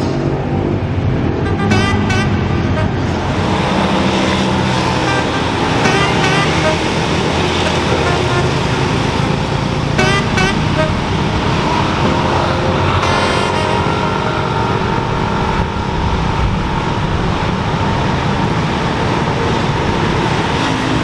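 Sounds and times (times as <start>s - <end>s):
dense road traffic rumble: 0.0s - 21.0s.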